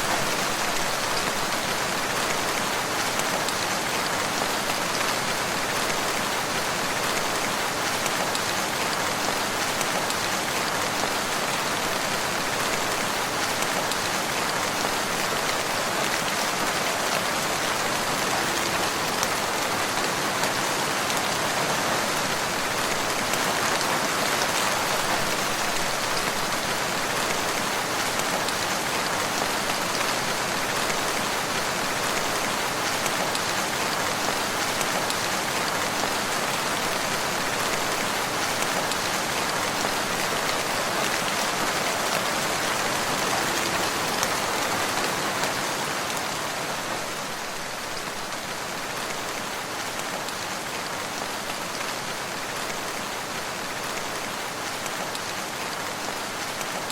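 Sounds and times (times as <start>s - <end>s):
steady rain patter: 0.0s - 56.9s.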